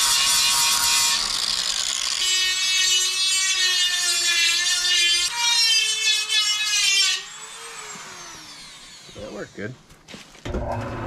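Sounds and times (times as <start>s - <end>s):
power tool whining against metal: 0.0s - 9.7s.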